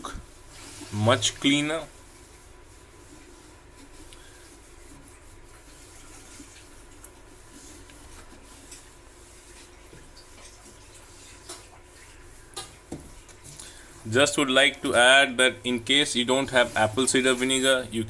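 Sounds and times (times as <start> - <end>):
paper towel rubbing: 0.0 - 18.0.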